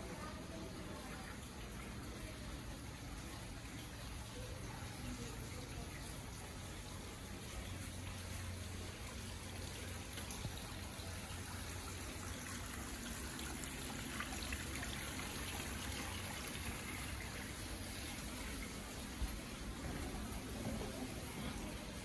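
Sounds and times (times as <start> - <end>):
water trickling among rocks: 0.4 - 22.0.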